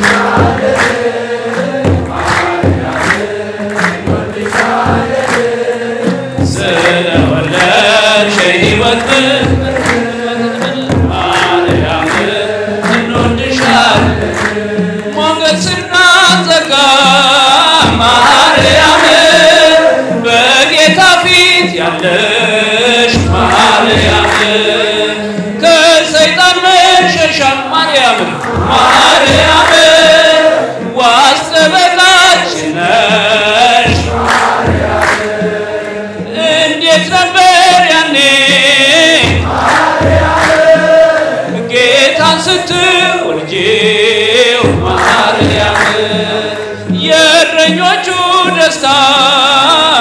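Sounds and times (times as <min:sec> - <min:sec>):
hand-clapping: 0:00.0 - 0:43.2, 0:44.3 - 0:48.9
congregation singing a hymn: 0:00.0 - 0:50.0
kebero drum beat: 0:00.0 - 0:50.0.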